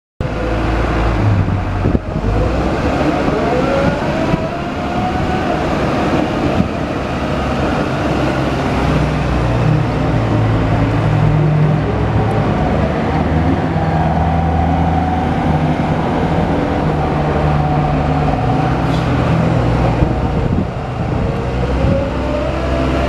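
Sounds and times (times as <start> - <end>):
diesel engine running: 0.2 - 23.0
rising whine: 0.2 - 23.0.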